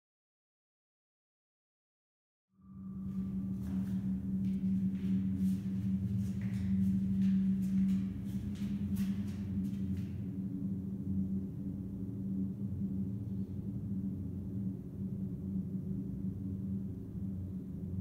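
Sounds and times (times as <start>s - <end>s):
steady low hum: 2.6s - 18.0s.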